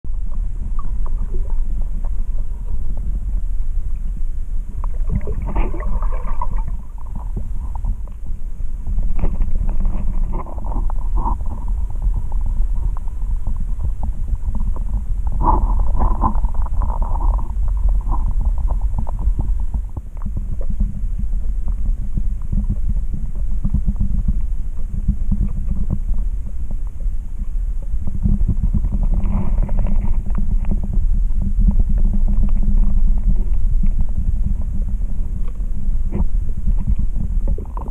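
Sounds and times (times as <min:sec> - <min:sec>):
muffled underwater water rumble: 0:00.0 - 0:37.9
underwater bubbling bursts: 0:00.1 - 0:37.9.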